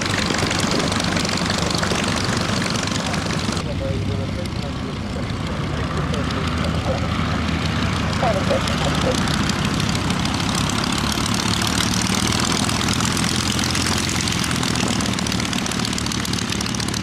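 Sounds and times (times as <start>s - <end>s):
light aircraft engine flying past: 0.0s - 17.0s.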